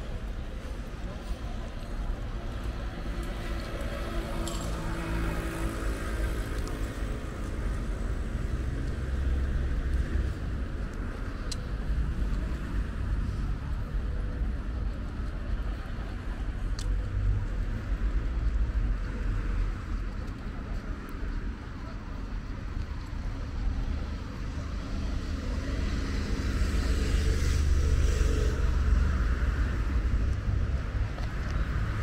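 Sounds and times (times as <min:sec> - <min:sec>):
cars passing on road: 0:00.0 - 0:32.0.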